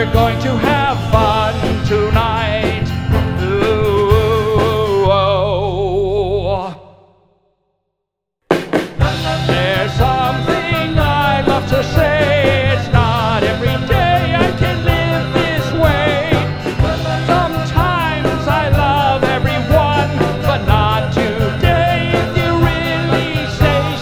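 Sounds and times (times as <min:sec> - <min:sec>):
rock band playing live: 0:00.0 - 0:05.2, 0:08.5 - 0:24.0.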